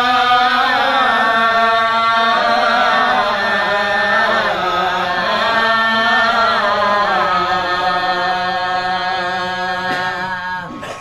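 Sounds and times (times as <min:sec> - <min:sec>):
man chanting verse: 0:00.0 - 0:10.9.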